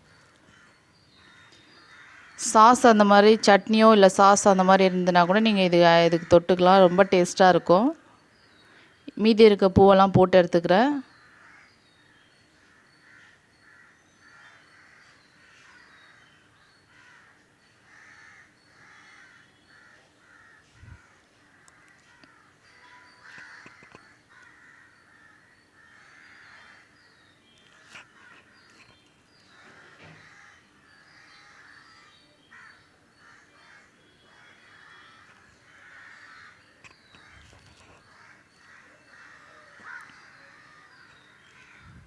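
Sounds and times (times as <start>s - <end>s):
crows cawing faintly: 0.0s - 3.8s, 5.4s - 9.2s, 11.0s - 42.0s.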